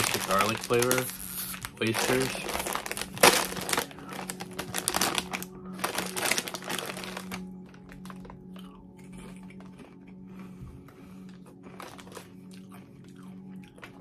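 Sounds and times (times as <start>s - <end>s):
plastic chip bag crinkling: 0.0s - 10.0s, 11.5s - 14.0s.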